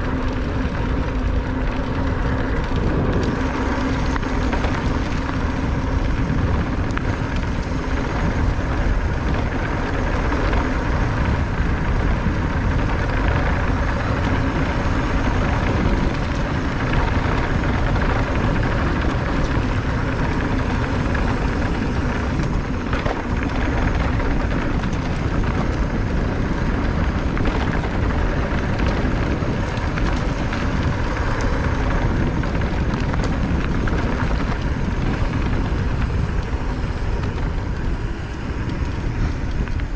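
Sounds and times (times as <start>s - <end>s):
faint steady motor whine: 0.0s - 39.9s
tyres rumbling over gravel: 0.0s - 39.9s
wind buffeting microphone: 0.0s - 39.9s.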